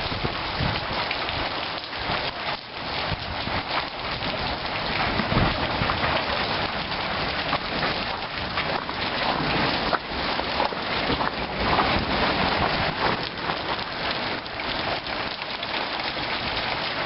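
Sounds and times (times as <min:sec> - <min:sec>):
hail clattering: 0:00.0 - 0:17.0.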